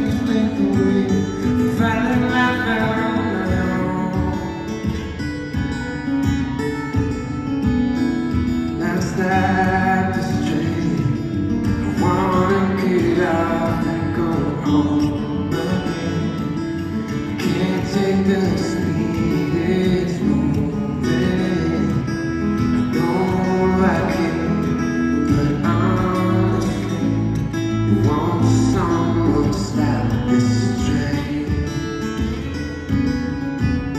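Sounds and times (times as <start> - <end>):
man singing: 0.0 - 5.2, 8.7 - 32.6
acoustic guitar picking: 0.0 - 33.9.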